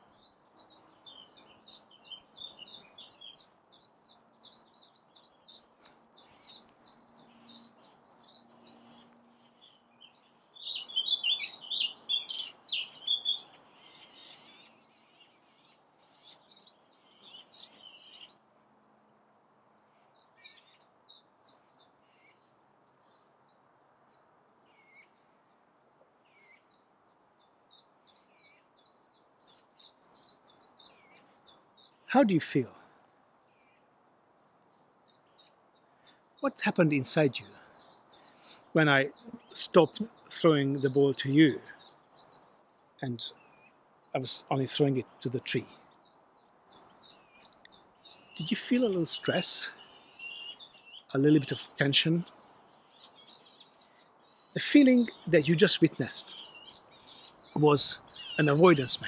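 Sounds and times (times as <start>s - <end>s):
wild birds chirping: 0.0s - 59.0s.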